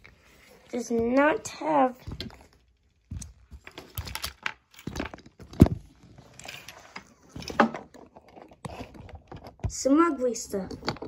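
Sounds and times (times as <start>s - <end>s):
plastic toys clicking and knocking: 2.0s - 11.0s.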